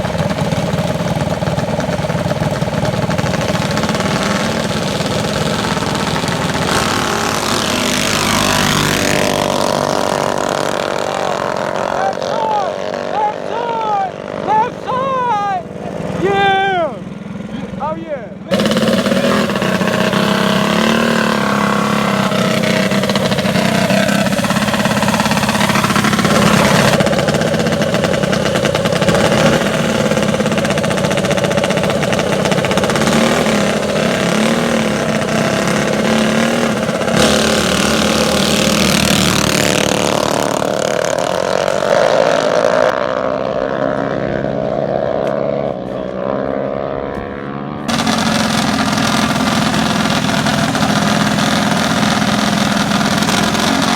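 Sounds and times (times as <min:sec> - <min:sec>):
mini bike engines revving: 0:00.0 - 0:53.9.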